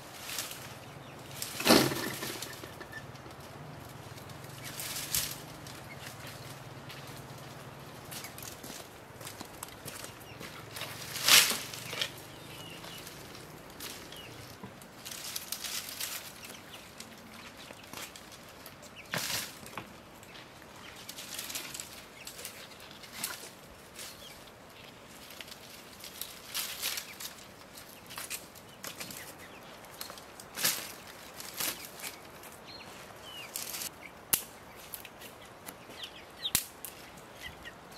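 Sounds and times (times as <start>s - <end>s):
dry twigs rustling and crackling: 0.0s - 37.9s.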